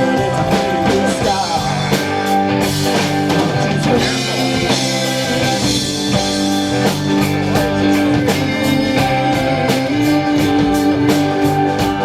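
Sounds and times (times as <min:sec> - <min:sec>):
rock band instrumental: 0:00.0 - 0:12.0.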